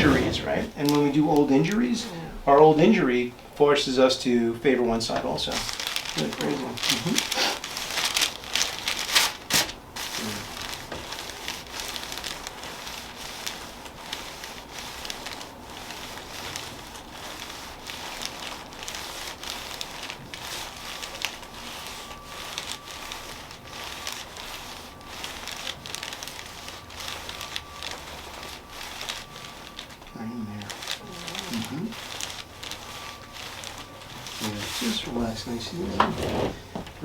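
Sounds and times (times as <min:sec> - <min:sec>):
soft rustling and crinkling: 0:00.0 - 0:37.0.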